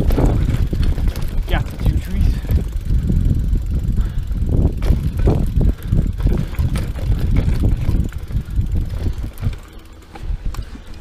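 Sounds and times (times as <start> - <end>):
bike knocking and rattling: 0.0 - 11.0
bike tyres rumbling on dirt: 0.0 - 11.0
wind on microphone: 0.0 - 11.0.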